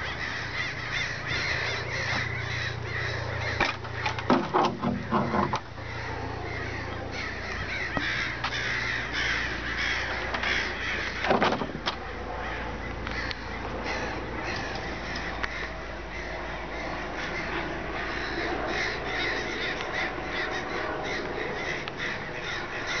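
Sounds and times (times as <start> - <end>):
flock of crows cawing: 0.0 - 23.0.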